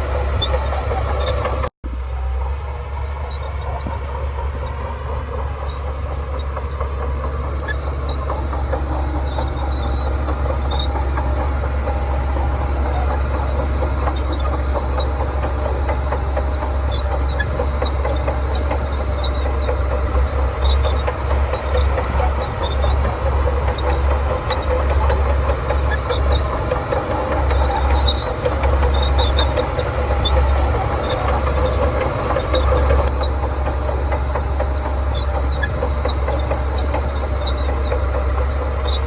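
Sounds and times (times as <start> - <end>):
bulldozer diesel engine running: 0.0 - 39.0
steel tracks clattering: 2.4 - 39.0.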